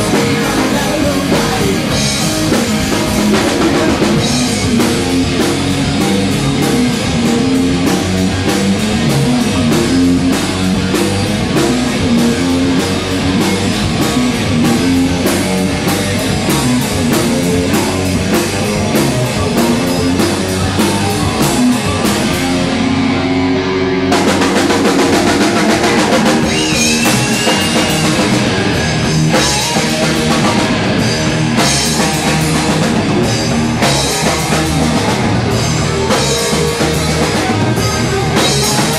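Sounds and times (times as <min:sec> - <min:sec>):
drum kit beat: 0:00.0 - 0:23.4, 0:24.0 - 0:38.9
rock band playing live: 0:00.0 - 0:38.9.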